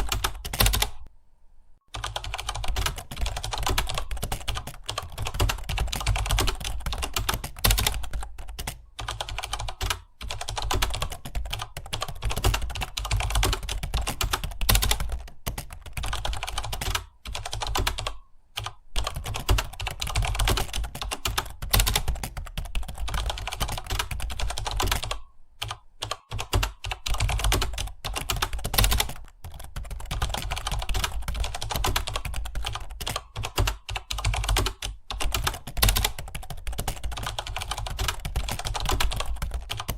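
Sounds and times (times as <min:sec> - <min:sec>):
computer keyboard typing: 0:00.0 - 0:01.1, 0:01.9 - 0:39.9.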